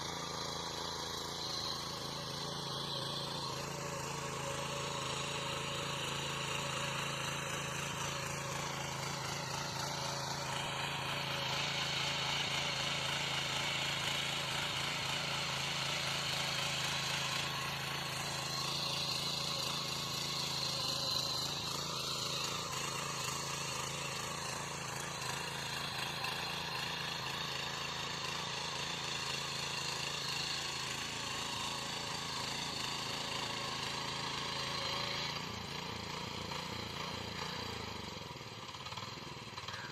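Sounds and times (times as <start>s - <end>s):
small tiller engine running: 0.0s - 39.9s.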